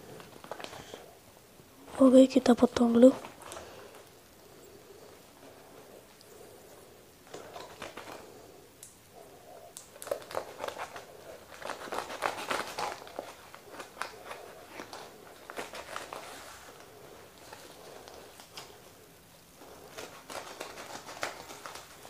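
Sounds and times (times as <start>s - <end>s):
wrapping crinkling and rustling: 0.0s - 1.2s, 1.8s - 8.6s, 9.6s - 22.0s.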